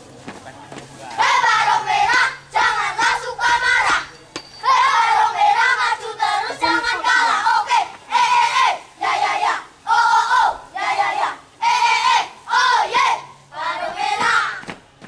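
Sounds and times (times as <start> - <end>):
children chanting and singing: 0.9 - 15.0.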